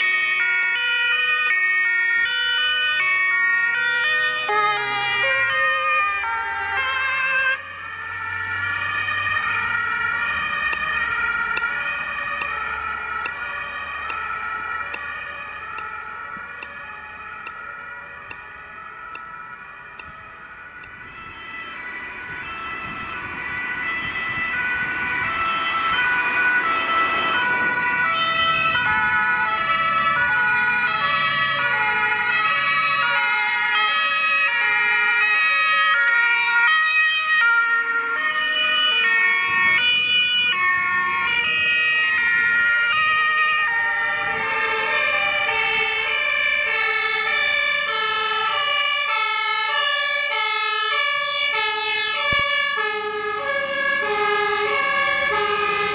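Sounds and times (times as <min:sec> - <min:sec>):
fire engine two-tone sirens: 0:00.0 - 0:55.9.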